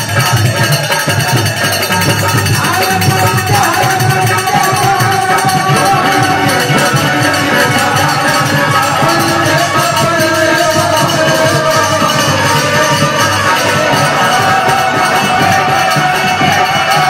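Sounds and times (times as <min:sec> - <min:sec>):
harmonium: 0:00.0 - 0:17.0
shaken rattle rhythm: 0:00.0 - 0:17.0.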